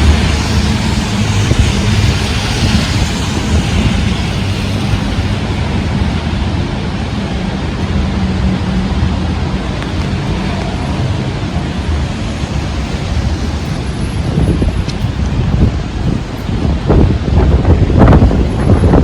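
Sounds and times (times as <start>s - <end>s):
heavy rain: 0.0s - 19.0s
wind buffeting microphone: 0.0s - 19.0s.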